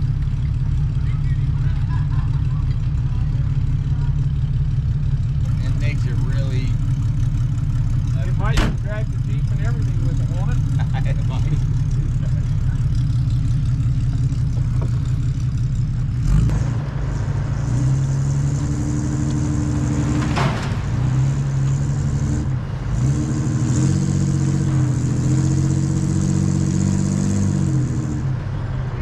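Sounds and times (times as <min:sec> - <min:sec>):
vehicle engine revving: 0:00.0 - 0:29.0.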